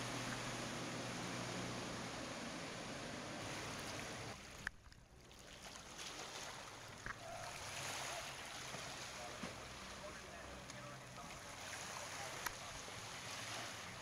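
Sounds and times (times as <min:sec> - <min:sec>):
hiss of wind and water: 0:00.0 - 0:14.0
outboard engines droning: 0:00.0 - 0:14.0.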